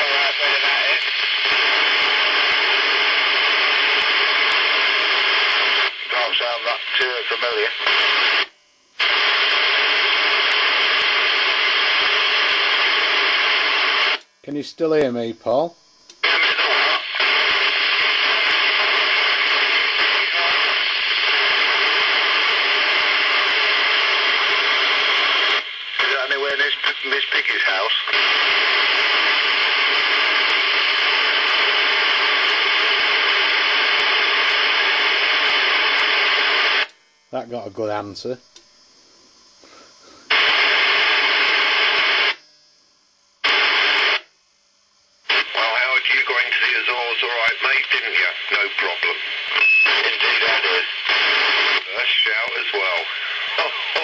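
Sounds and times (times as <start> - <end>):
radio receiver hiss: 0.0 - 42.4, 43.4 - 44.4, 45.2 - 54.0.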